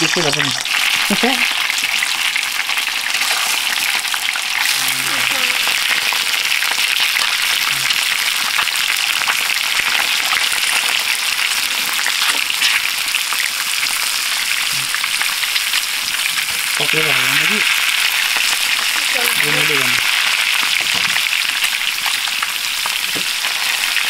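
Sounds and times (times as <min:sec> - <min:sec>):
eggs sizzling in a pan: 0:00.0 - 0:24.0.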